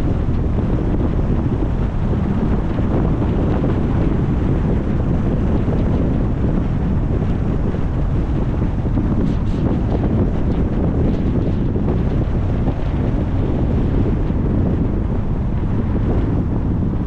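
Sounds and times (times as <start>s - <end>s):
car road noise: 0.0s - 17.0s
wind rushing over microphone: 0.0s - 17.0s.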